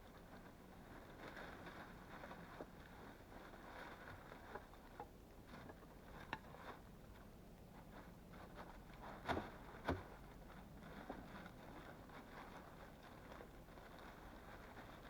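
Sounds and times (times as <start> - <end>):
faint rustling: 0.2 - 15.0.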